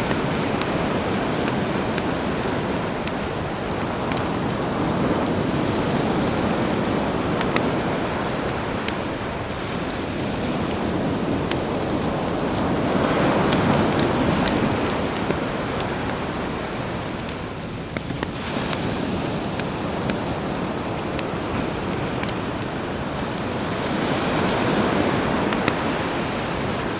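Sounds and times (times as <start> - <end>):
campfire crackling and popping: 0.0 - 26.9
sea waves: 0.0 - 26.9.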